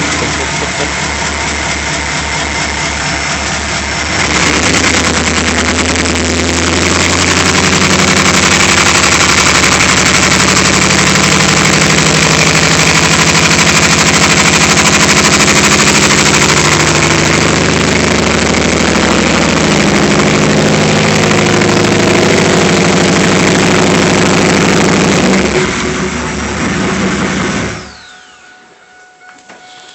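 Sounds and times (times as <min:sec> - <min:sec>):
car engine idling with misfire: 0:00.0 - 0:28.0.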